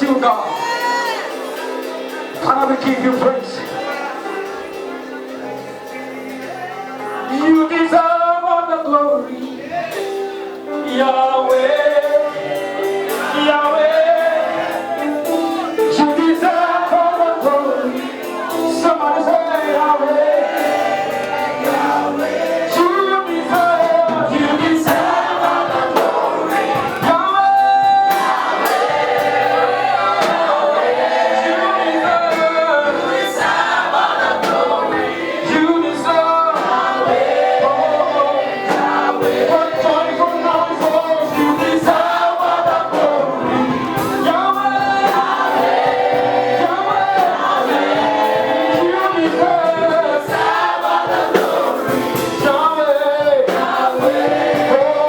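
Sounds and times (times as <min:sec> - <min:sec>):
drums: 0:00.0 - 0:08.0, 0:09.5 - 0:55.0
choir singing: 0:00.0 - 0:55.0
keyboard: 0:00.0 - 0:55.0.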